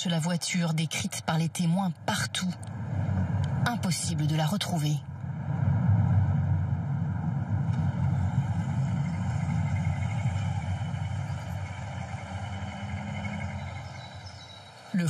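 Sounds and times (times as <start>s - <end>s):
car engine and road noise: 1.6s - 15.0s.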